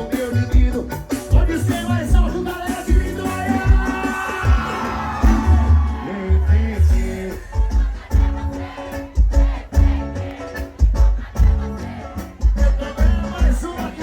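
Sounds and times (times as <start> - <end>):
live band music: 0.0 - 14.0
kick drum and bass beat: 0.5 - 14.0.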